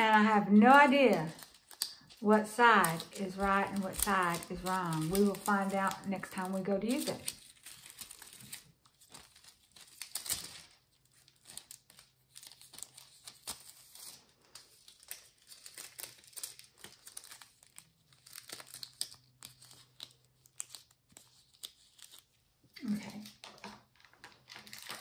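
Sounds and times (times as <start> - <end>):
foil crinkling: 0.0 - 25.0.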